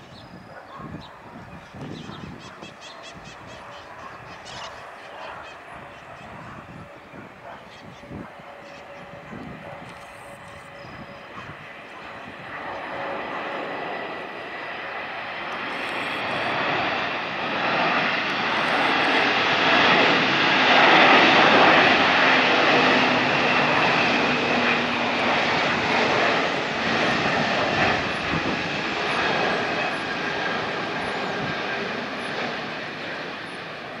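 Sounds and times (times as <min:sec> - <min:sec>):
jet engines rushing: 0:00.0 - 0:34.0
steady engine whine: 0:00.0 - 0:34.0.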